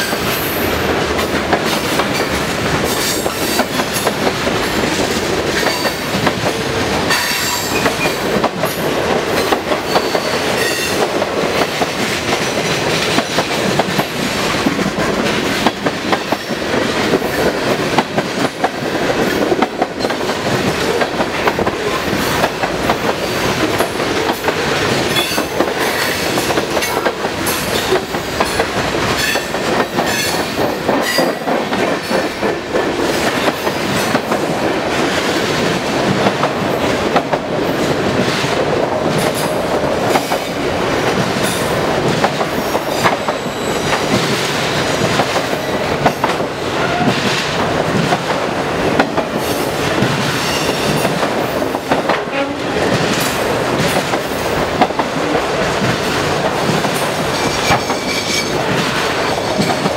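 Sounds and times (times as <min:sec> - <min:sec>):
freight train wheels rumbling on rails: 0:00.0 - 0:59.9
train knocks: 0:00.0 - 0:59.9.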